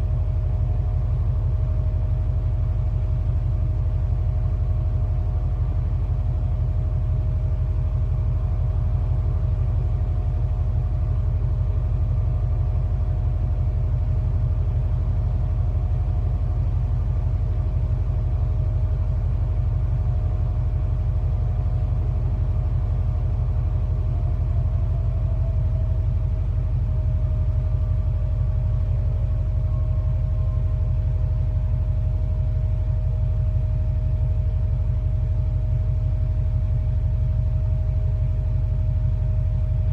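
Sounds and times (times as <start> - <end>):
mid-pitched whine: 0.0 - 39.9
ship engine drone: 0.0 - 39.9.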